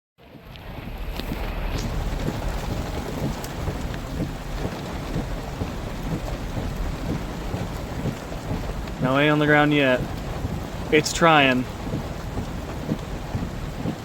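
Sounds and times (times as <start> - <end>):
low rumble: 0.2 - 14.0
rain pattering: 0.2 - 14.0.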